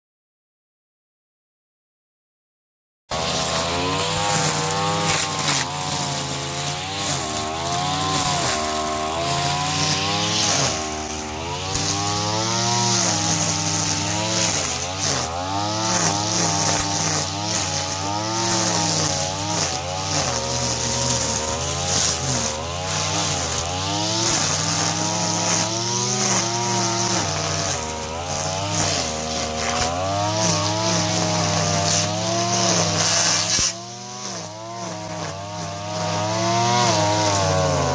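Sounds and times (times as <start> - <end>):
brush cutter engine: 3.1 - 37.9
trimmer line hissing: 3.1 - 37.9.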